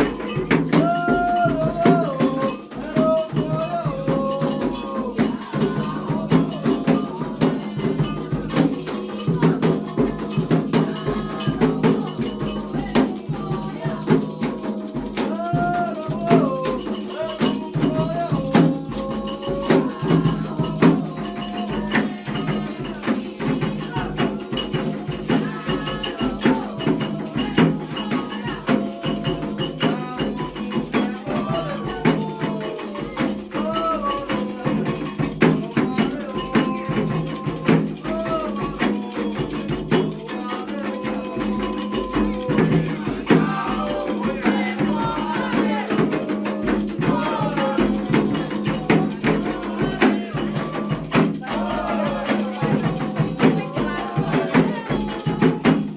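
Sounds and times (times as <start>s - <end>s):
hand drums: 0.0s - 55.9s
voices singing: 0.0s - 55.9s.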